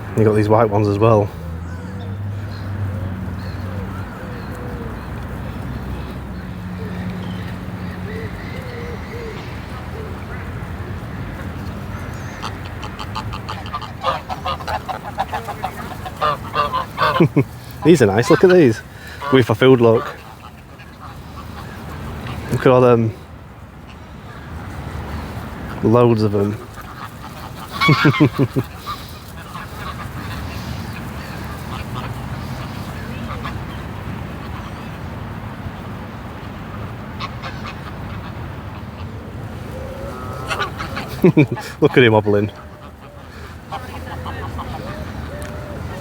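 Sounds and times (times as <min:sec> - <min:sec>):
geese honking and cackling: 0:00.0 - 0:23.2, 0:23.8 - 0:35.1, 0:36.3 - 0:46.0.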